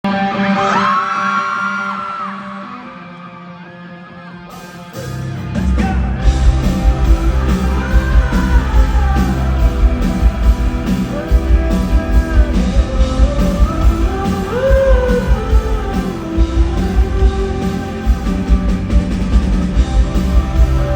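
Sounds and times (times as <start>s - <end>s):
live rock band playing: 0.0s - 20.9s
person singing: 4.1s - 20.9s.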